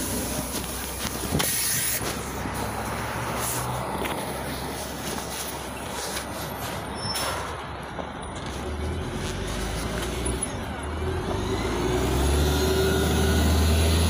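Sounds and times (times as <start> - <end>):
bus engine accelerating: 0.0 - 14.0
engine whine: 0.0 - 14.0.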